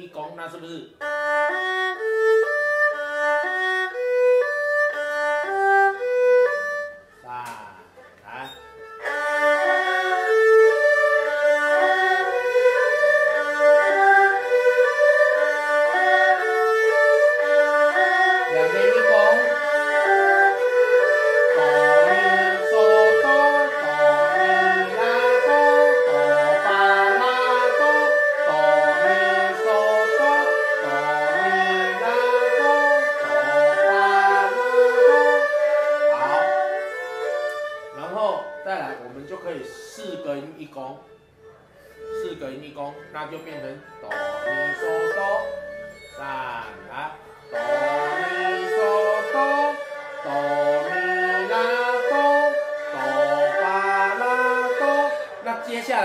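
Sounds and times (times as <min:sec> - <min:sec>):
erhu playing arpeggios: 0:00.4 - 0:56.0.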